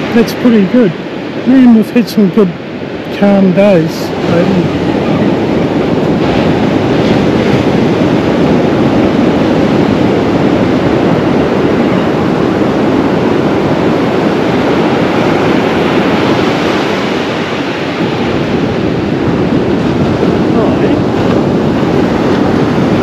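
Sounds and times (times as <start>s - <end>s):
ocean waves breaking on beach: 0.0s - 23.0s.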